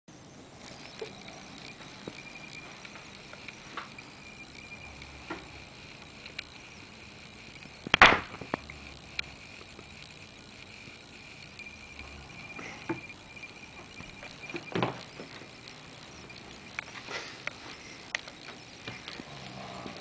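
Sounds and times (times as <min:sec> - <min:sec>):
thin high whine: 0:00.1 - 0:20.0.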